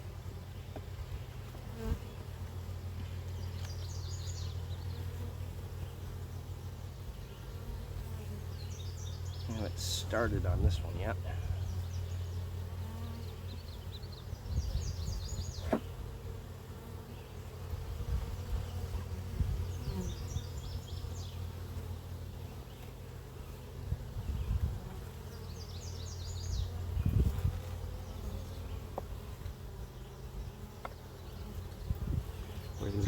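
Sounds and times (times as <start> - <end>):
honey bees humming: 0.0 - 33.0.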